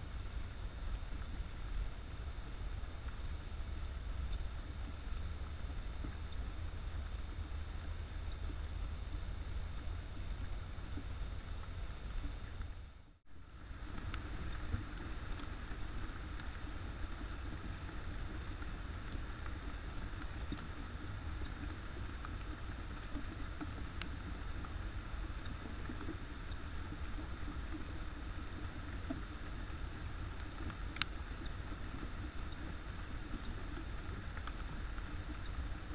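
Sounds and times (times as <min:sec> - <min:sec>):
faint clicks: 0:00.0 - 0:12.9, 0:13.6 - 0:35.9
low rumble: 0:00.0 - 0:35.9
rain falling on leaves: 0:00.0 - 0:35.9.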